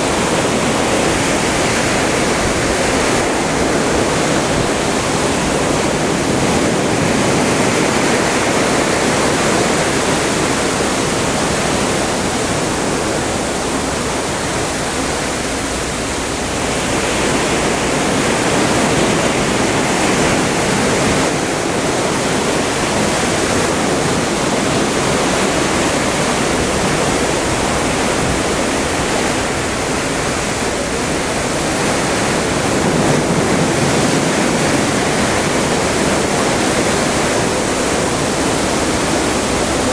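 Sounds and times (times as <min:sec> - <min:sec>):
seawater rushing past a ship: 0:00.0 - 0:39.9.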